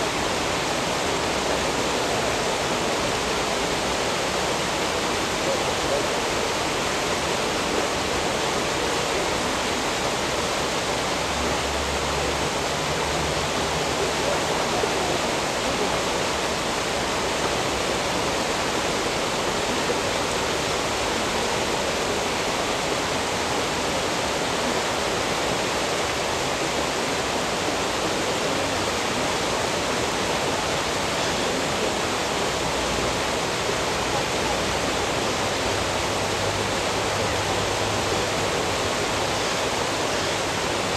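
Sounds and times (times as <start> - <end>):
turbulent water rushing: 0.0 - 40.9.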